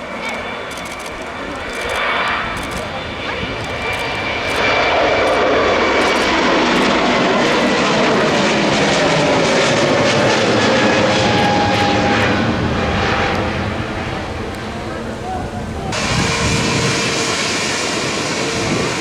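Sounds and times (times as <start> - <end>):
airliner engines roaring: 0.0 - 19.0.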